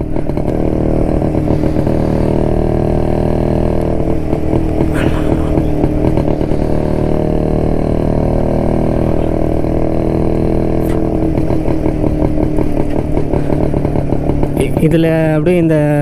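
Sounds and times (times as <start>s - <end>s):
two-stroke motorcycle engine: 0.0s - 16.0s.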